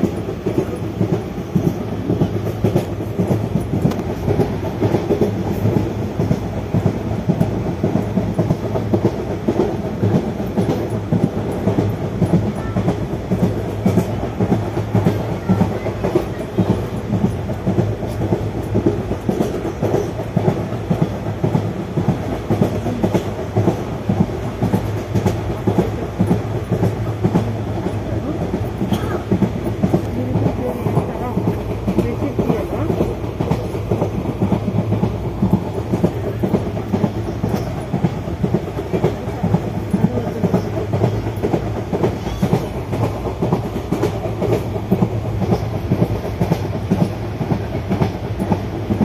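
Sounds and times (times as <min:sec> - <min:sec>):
train wheels clacking on rails: 0:00.0 - 0:49.0.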